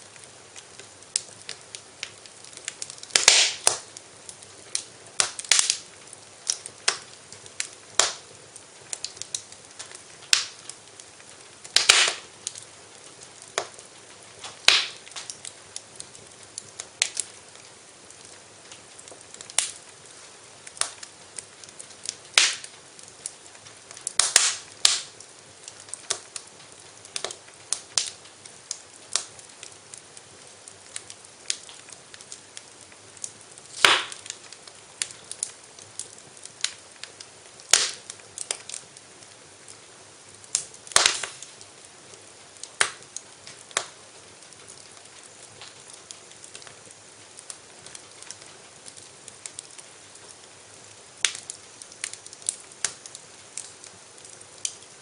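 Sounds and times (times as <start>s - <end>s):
faint steady hiss: 0.0s - 55.0s
fire crackling and popping: 0.0s - 55.0s.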